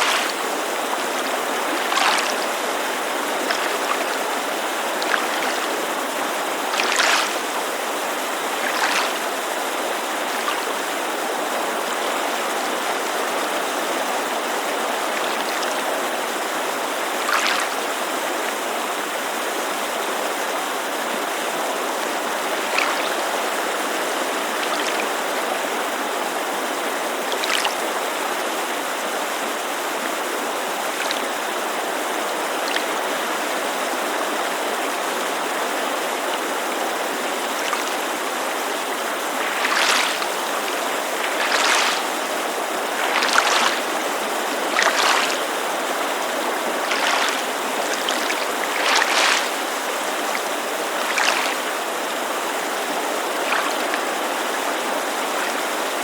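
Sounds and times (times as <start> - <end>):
creek rushing: 0.0 - 56.0
water lapping against shore: 0.0 - 56.0.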